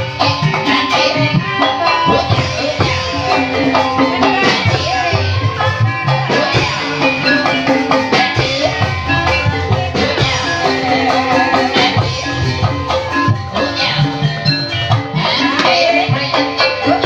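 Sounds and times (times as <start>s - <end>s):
drum strokes: 1.9s - 15.9s.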